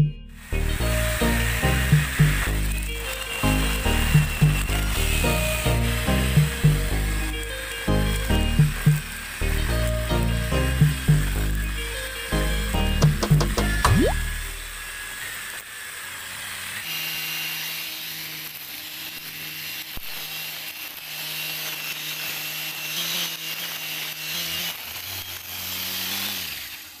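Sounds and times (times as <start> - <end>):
string trimmer motor whine: 0.0 - 27.0
trimmer line cutting grass: 0.4 - 27.0.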